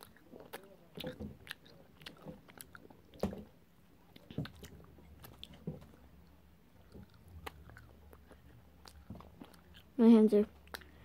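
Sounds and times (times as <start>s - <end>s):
chewing candy: 0.0s - 11.0s.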